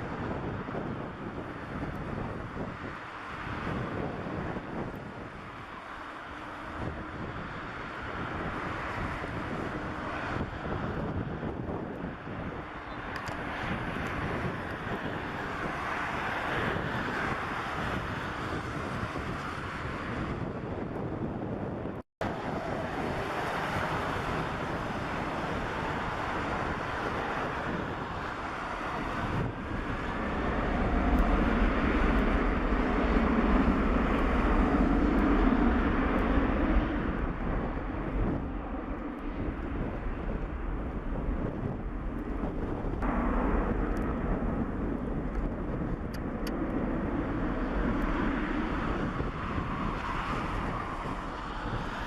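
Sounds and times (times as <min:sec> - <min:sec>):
jet engines rumbling: 0:00.0 - 0:52.0
wind on microphone: 0:00.0 - 0:52.0.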